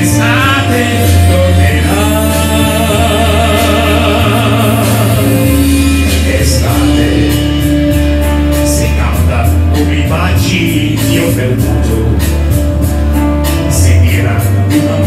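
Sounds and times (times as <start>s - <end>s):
man singing a slow ballad: 0.0s - 15.0s
recorded backing track: 0.0s - 15.0s.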